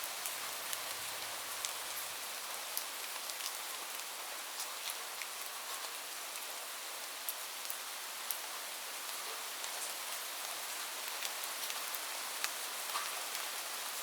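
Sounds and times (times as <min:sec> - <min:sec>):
raindrops ticking on a surface: 0:00.0 - 0:14.0
steady rain hiss: 0:00.0 - 0:14.0.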